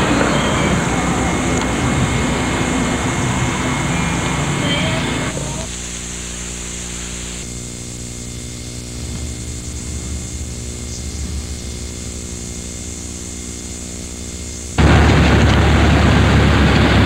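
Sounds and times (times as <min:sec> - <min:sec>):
low rumble: 0:00.0 - 0:05.8, 0:07.4 - 0:17.0
electrical hum: 0:00.0 - 0:17.0.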